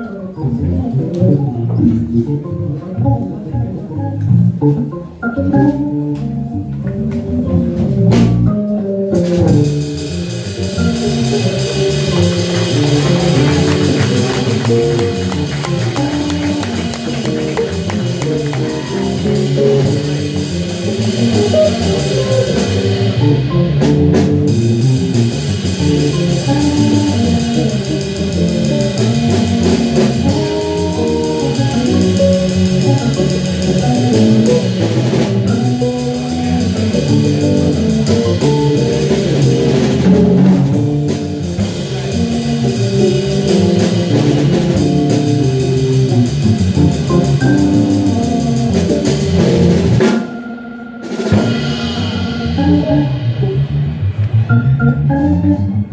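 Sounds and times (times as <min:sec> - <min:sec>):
drum kit: 0:00.0 - 0:55.4
organ bass line: 0:00.0 - 0:55.9.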